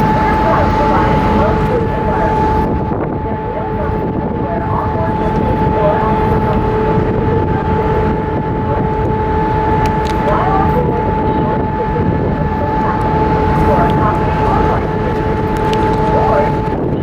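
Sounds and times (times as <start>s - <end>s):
constant whining tones: 0.0s - 17.0s
ferry engines rumbling: 0.0s - 17.0s.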